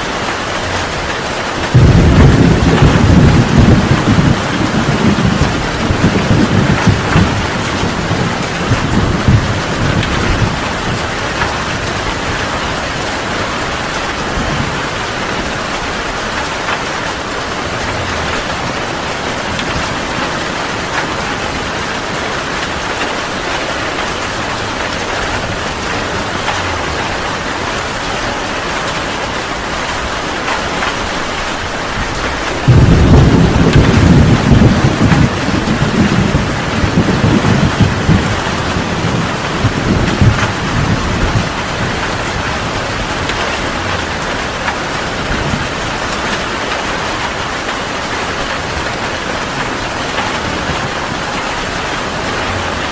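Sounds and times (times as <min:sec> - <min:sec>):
heavy rain falling: 0:00.0 - 0:52.9
thunder rumbling: 0:00.2 - 0:52.9.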